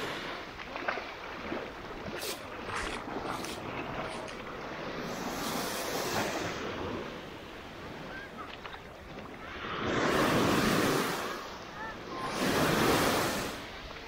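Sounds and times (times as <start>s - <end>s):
waves breaking on sand shore: 0.0s - 14.0s.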